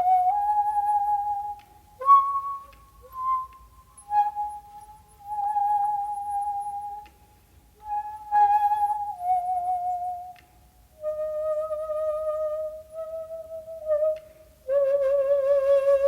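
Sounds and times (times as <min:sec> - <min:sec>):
bamboo flute playing slow notes: 0:00.0 - 0:16.0.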